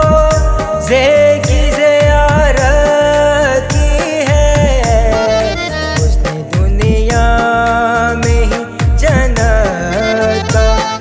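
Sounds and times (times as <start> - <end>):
bass thuds and percussion beat: 0.0 - 11.0
man singing a mourning chant: 0.0 - 11.0.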